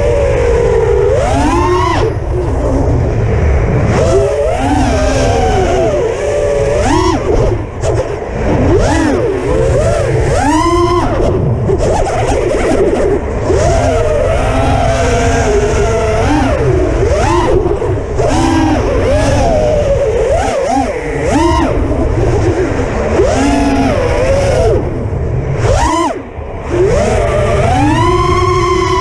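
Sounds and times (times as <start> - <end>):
drone motors whining: 0.0 - 29.0
wind rumble on microphone: 0.0 - 29.0.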